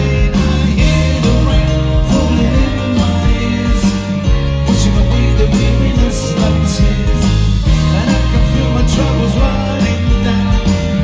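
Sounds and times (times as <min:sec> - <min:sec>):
live band playing amplified music: 0:00.0 - 0:11.0.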